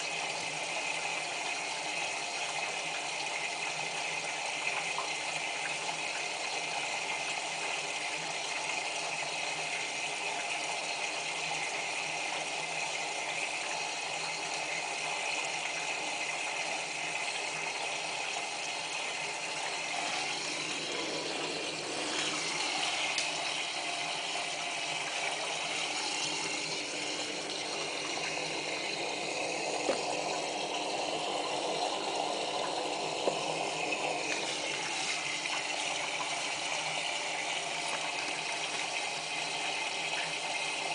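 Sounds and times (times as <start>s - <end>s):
water running into washing machine: 0.0s - 40.9s.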